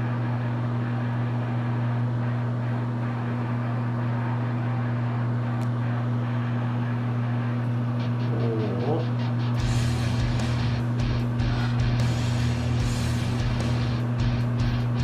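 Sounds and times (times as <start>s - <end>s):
fan whirring: 0.0s - 15.0s
microwave oven humming: 0.0s - 15.0s.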